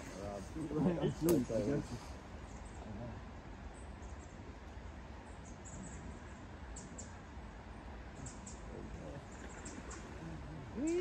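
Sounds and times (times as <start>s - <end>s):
outdoor hiss and low rumble: 0.0s - 11.0s.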